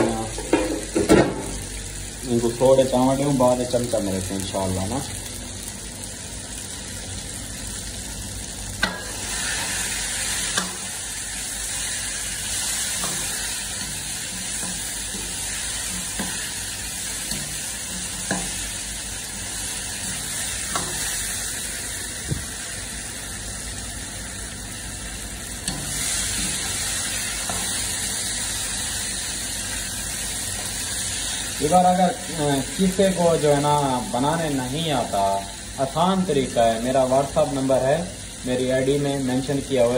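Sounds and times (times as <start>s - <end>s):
meat and potatoes sizzling: 0.0s - 39.9s.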